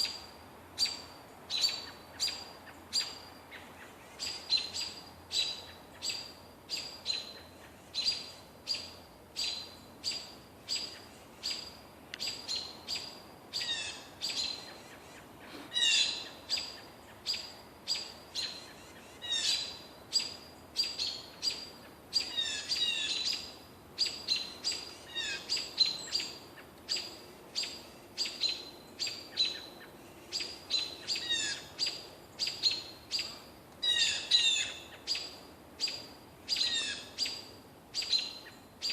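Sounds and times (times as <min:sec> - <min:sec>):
birds chirping: 0:00.8 - 0:38.9.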